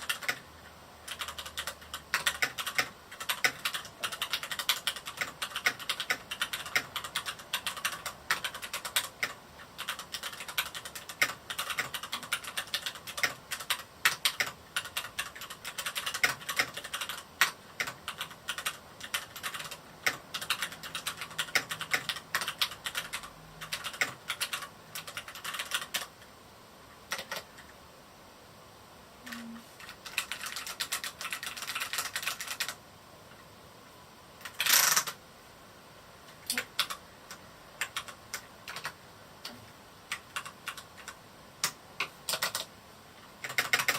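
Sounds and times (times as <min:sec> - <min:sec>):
typing on mechanical keyboard: 0:00.0 - 0:26.2, 0:27.1 - 0:27.7, 0:29.3 - 0:32.8, 0:34.4 - 0:35.2, 0:36.5 - 0:39.0, 0:40.1 - 0:42.7, 0:43.4 - 0:43.9.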